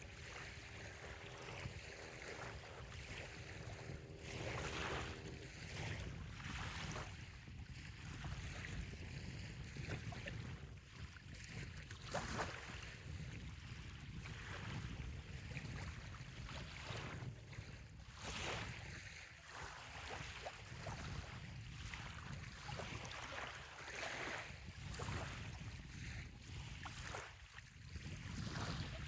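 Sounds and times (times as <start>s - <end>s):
small waves lapping on shore: 0.0s - 29.0s
wind rumble on microphone: 0.0s - 29.0s.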